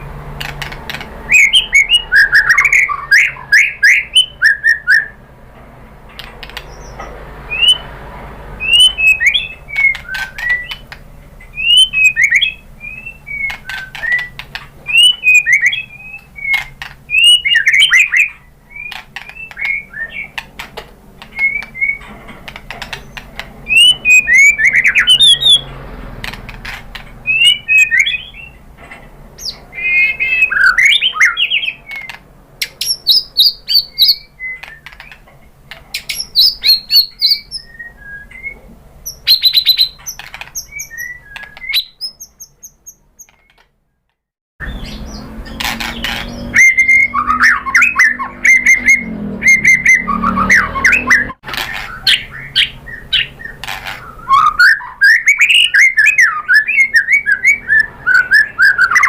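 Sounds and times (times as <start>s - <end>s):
bird singing whistles and trills: 1.3s - 5.2s, 6.6s - 7.9s, 8.6s - 20.6s, 21.2s - 22.1s, 22.9s - 25.7s, 27.2s - 28.6s, 29.4s - 35.2s, 36.0s - 43.6s, 44.6s - 59.0s.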